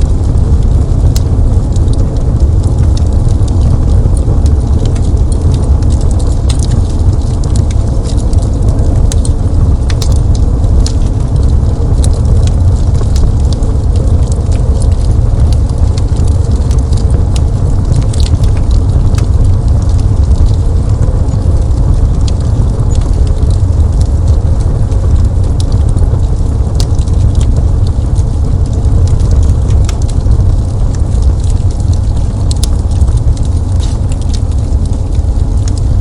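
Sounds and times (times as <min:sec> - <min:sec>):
burning wood crackling and popping: 0:00.0 - 0:36.0
fire low rumble: 0:00.0 - 0:36.0.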